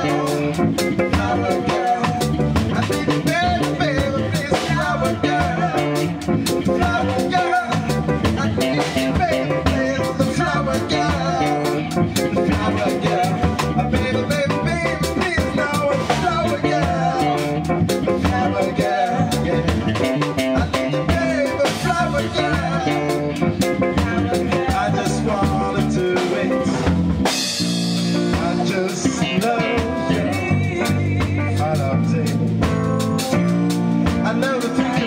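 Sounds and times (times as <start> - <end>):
live band playing: 0.0 - 35.0
man singing: 0.0 - 35.0.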